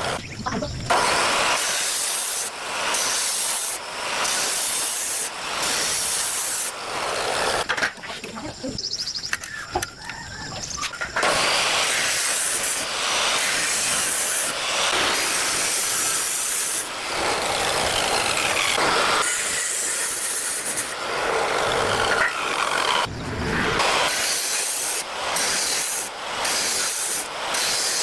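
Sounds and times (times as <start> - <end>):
loud steady hissing: 0.0 - 7.6, 11.1 - 28.0.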